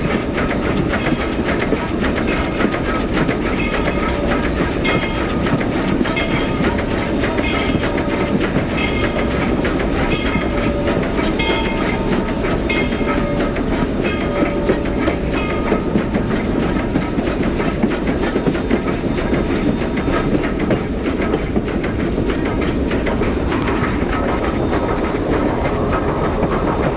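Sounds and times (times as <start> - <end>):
train running gear rumble: 0.0 - 26.9
wheels clicking over rail joints: 0.0 - 26.9.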